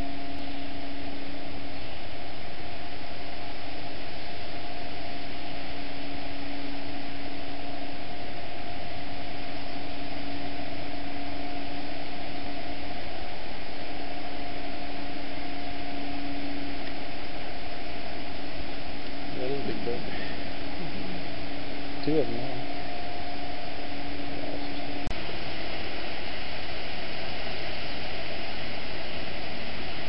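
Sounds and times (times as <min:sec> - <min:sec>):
loud even hiss: 0:00.0 - 0:30.0
machinery humming with held tones: 0:00.0 - 0:30.0.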